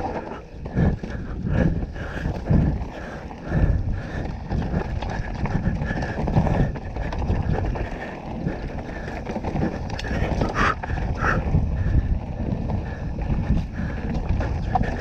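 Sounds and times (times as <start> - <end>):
bike rattling over rocks: 0.0 - 15.0.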